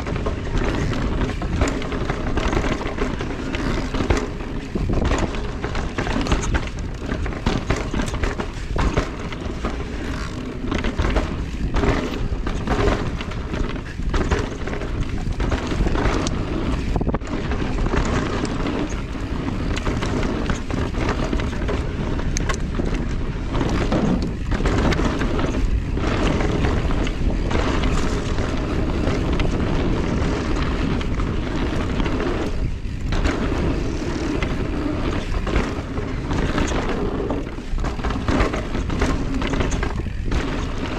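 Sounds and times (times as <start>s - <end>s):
bike knocking and rattling: 0.0s - 40.9s
bike tyres rolling over rough trail: 0.0s - 40.9s
wind rushing over microphone: 0.0s - 40.9s.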